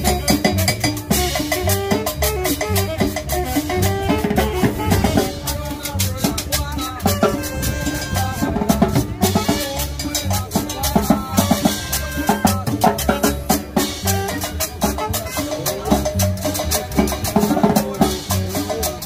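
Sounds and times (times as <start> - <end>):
latin dance band music: 0.0 - 19.0.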